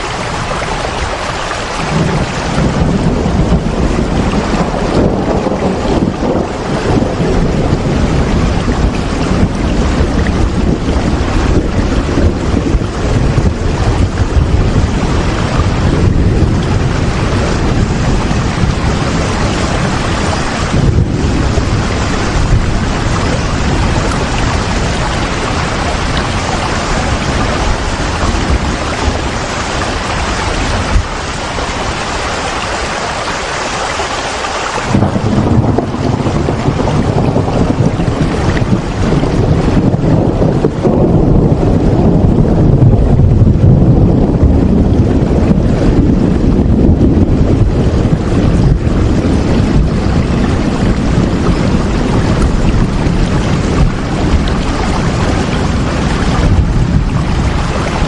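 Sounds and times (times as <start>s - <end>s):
heavy rain: 0.0s - 58.0s
low rumble: 1.7s - 32.0s, 34.9s - 58.0s.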